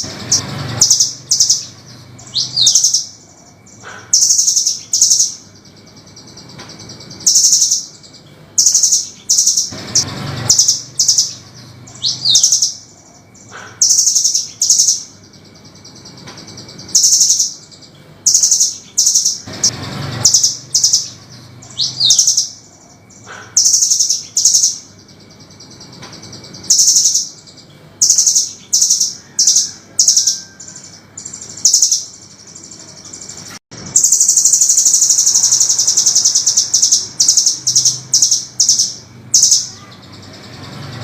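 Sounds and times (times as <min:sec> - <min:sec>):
bird calling in rattling bursts: 0:00.0 - 0:41.0.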